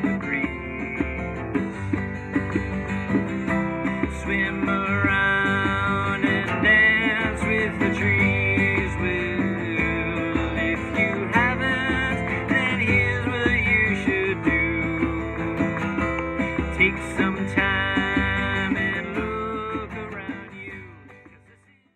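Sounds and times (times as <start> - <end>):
acoustic guitar song: 0.0 - 21.9.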